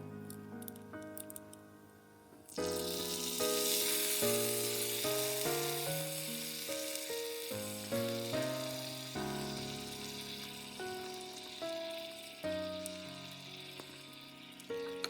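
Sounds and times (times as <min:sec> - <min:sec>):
background music: 0:00.0 - 0:15.0
chicken sizzling in hot oil: 0:02.5 - 0:15.0.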